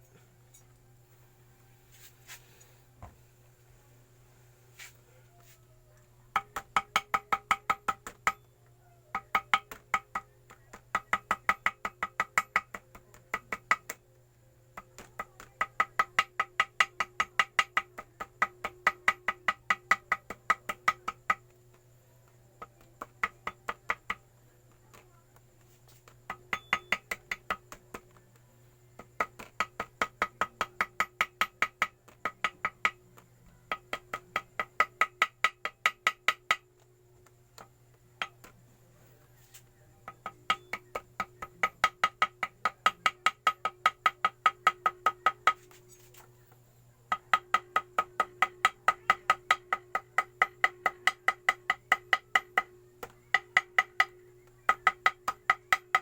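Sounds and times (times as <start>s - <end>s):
small hammer tapping: 6.3s - 14.0s, 14.7s - 21.9s, 22.6s - 28.2s, 29.0s - 38.6s, 39.5s - 46.3s, 47.1s - 56.0s.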